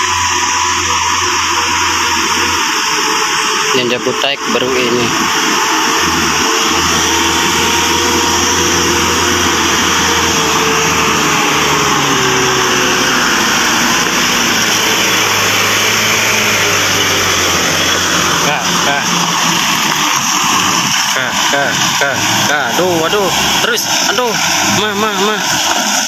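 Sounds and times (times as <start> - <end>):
diesel truck engine labouring: 0.0 - 26.0.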